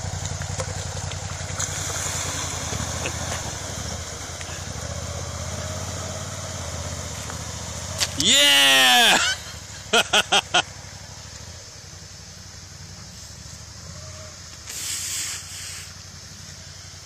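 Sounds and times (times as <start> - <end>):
motorcycle engine running: 0.0 - 14.7
water splashing around wheels: 0.0 - 17.0.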